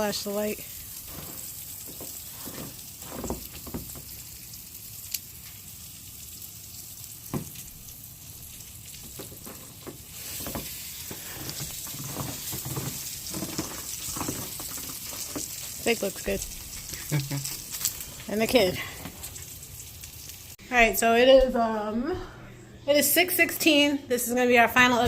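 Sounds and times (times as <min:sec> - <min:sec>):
steak sizzling with pops: 0:00.0 - 0:20.6.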